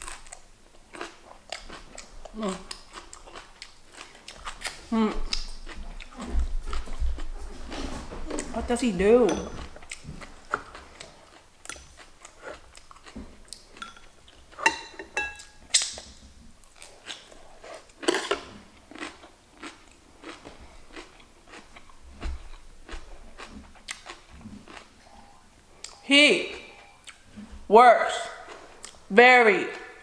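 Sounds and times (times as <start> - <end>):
person chewing crunchy food: 0.0 - 8.6, 9.4 - 26.0, 26.6 - 27.5, 28.3 - 29.1.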